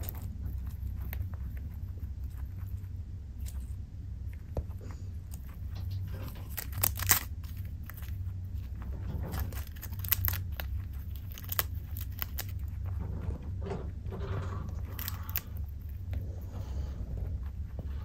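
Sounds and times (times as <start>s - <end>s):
chinchilla chewing a leaf: 0.0s - 18.0s
low hum: 0.0s - 18.0s.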